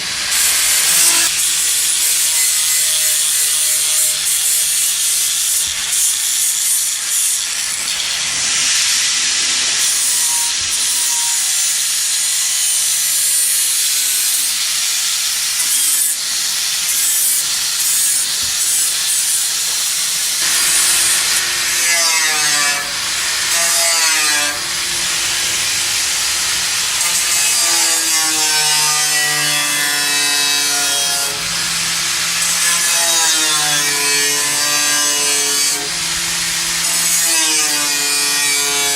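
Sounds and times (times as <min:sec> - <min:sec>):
saw cutting wood: 0:00.0 - 0:38.9.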